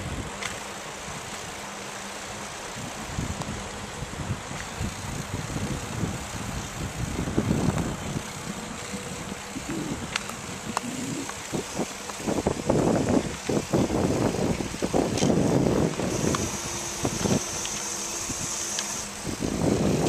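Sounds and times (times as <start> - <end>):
wind on microphone: 0.0 - 1.6, 2.6 - 20.0
tyres rolling on dirt: 0.1 - 20.0.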